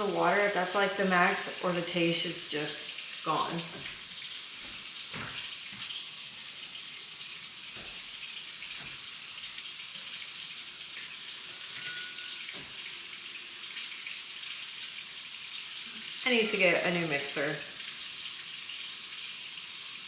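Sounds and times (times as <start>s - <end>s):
tap water running: 0.0s - 20.0s.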